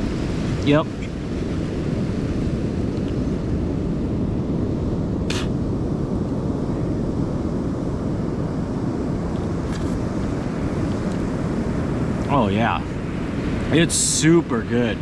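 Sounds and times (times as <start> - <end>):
wind on microphone: 0.0 - 13.9
ocean surf: 0.0 - 15.0.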